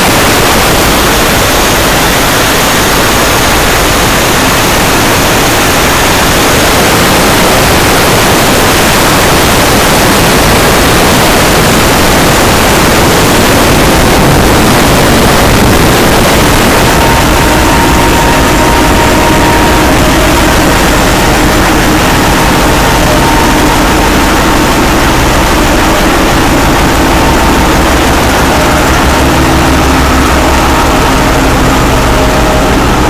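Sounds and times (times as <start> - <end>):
engine room machinery roar: 0.0 - 33.0.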